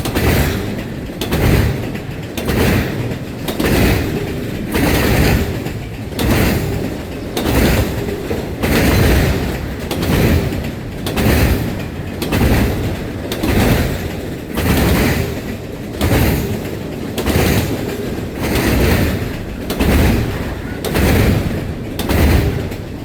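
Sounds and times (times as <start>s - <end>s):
freight train rumbling past: 0.0s - 23.0s
wheels knocking over rail joints: 0.0s - 23.0s.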